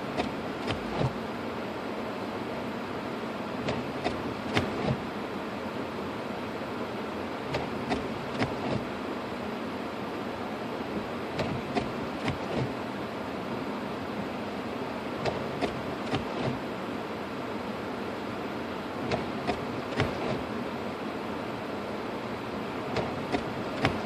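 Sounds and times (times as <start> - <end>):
car road noise inside: 0.0 - 24.0.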